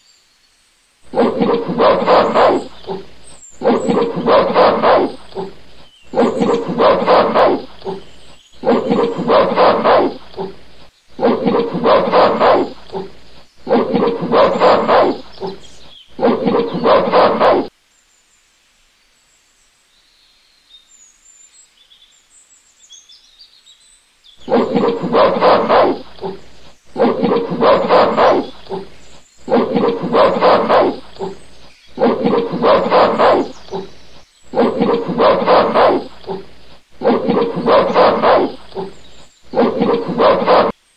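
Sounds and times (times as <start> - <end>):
loud animal calls: 1.1 - 17.7, 24.4 - 40.8.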